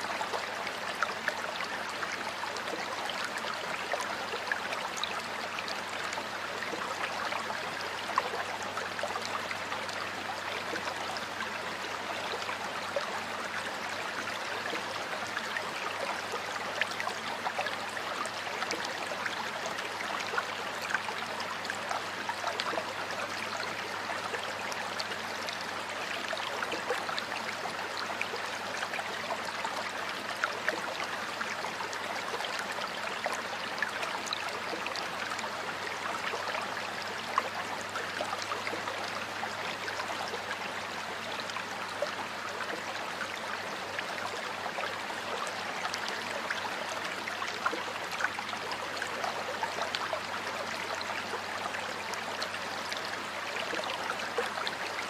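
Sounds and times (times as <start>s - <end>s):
stream water flowing and splashing: 0.0s - 55.0s.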